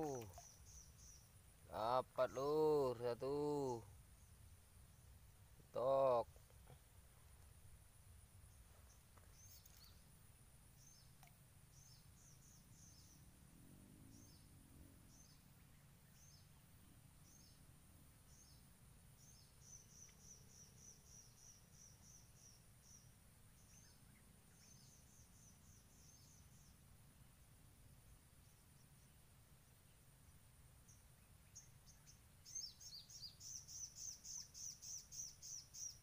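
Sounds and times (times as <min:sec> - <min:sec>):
small bird chirping faintly: 0:00.0 - 0:36.0.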